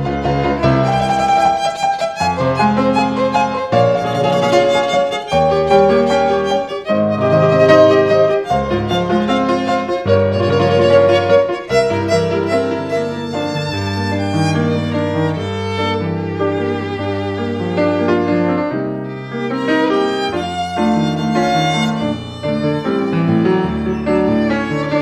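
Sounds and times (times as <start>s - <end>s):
instrumental accompaniment: 0.0s - 25.0s
violin melody: 0.0s - 25.0s.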